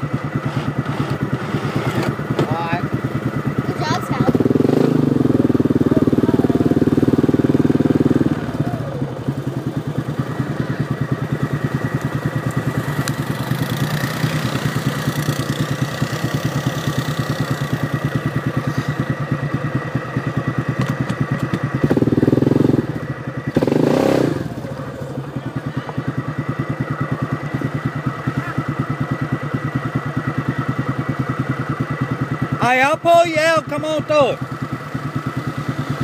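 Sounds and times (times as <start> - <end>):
off-road vehicle engine revving: 0.0 - 36.0.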